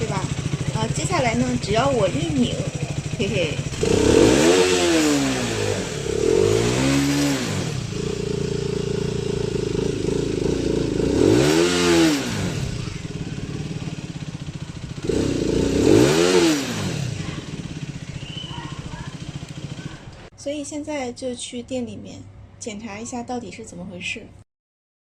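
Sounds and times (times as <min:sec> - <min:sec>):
motorcycle engine revving: 0:00.0 - 0:20.3.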